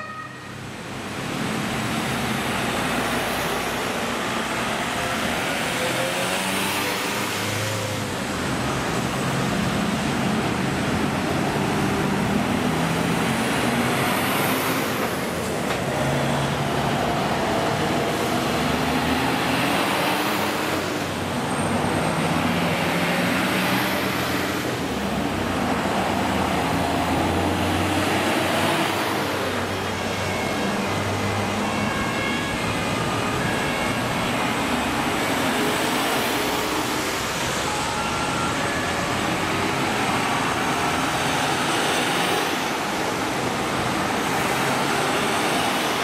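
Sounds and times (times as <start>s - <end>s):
fire engines driving past: 0.0s - 46.0s
road traffic noise: 0.0s - 46.0s.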